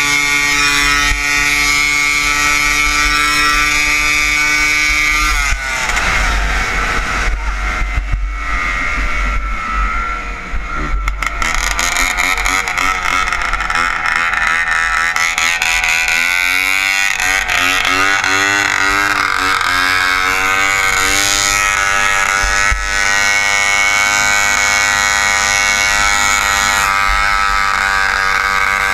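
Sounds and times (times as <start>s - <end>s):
snowmobile engine at high revs: 0.0s - 28.9s.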